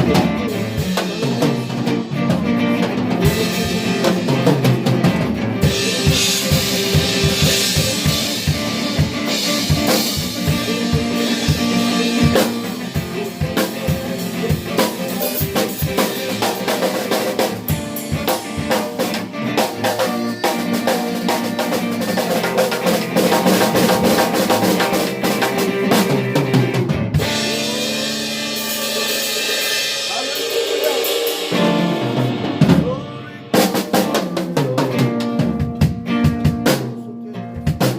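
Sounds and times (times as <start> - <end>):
drum kit beat: 0.0 - 37.9.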